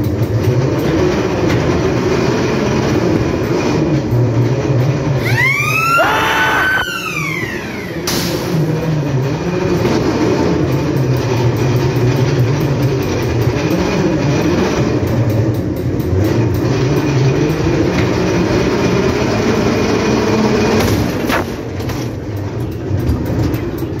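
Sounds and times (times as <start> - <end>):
ride car rumbling along track: 0.0 - 24.0.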